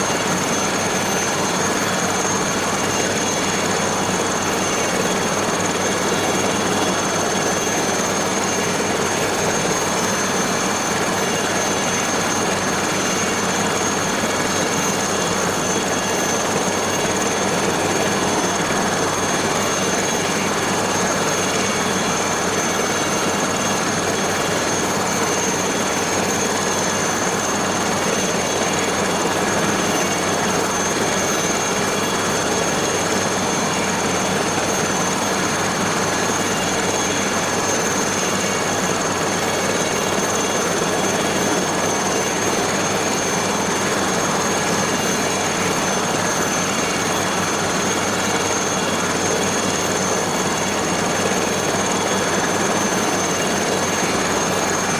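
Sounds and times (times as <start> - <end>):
helicopter engine and rotor: 0.0 - 54.9
high-pitched turbine whine: 0.0 - 54.9.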